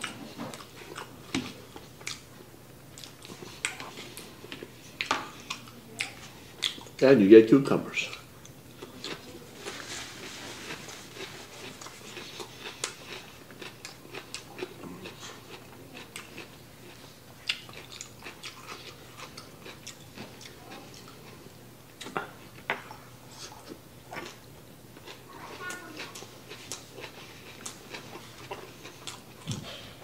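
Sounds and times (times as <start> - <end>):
chewing crisp cucumber: 0.0 - 2.3, 2.9 - 7.0, 8.1 - 30.0.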